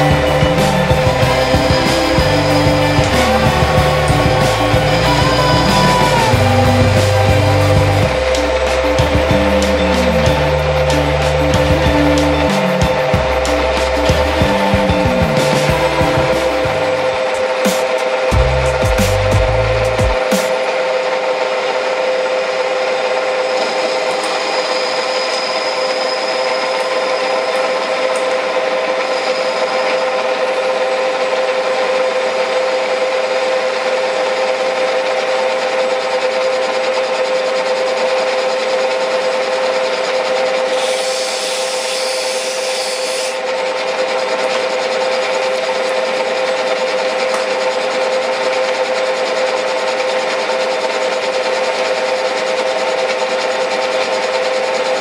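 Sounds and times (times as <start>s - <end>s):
metal lathe humming: 0.0s - 55.0s.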